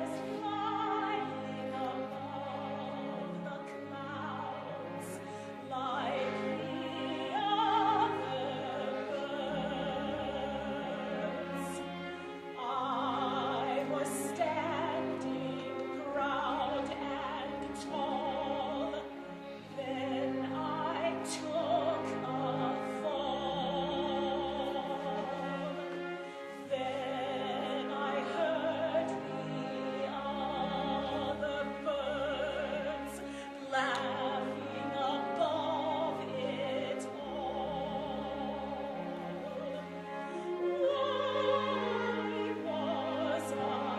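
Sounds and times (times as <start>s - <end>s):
operatic singing with vibrato: 0.0s - 43.9s.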